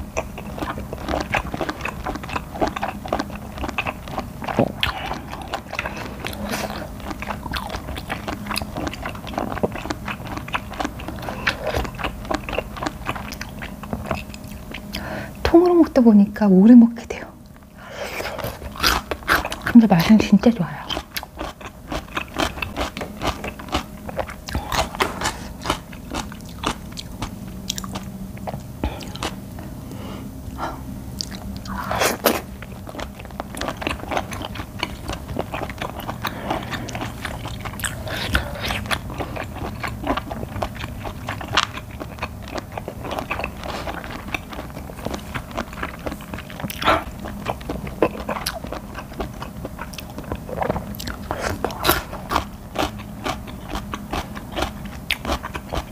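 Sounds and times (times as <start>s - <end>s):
close chewing with mouth clicks: 0.0s - 15.1s, 17.4s - 30.0s, 31.2s - 55.9s.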